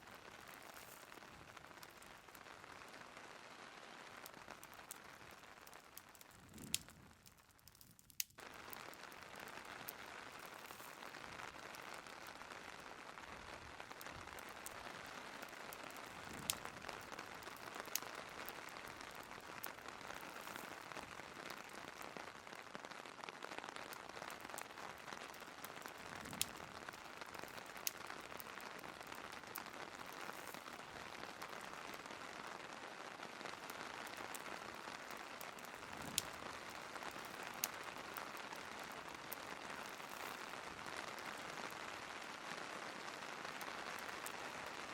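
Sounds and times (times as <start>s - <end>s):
steady rain hiss: 0.0s - 44.9s
wood fire crackling: 0.0s - 44.9s.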